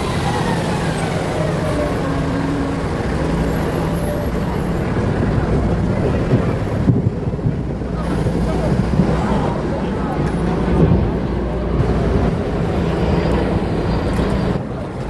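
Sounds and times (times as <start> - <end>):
diesel truck driving past: 0.0 - 15.0
rumble of passing vehicles: 0.0 - 15.0.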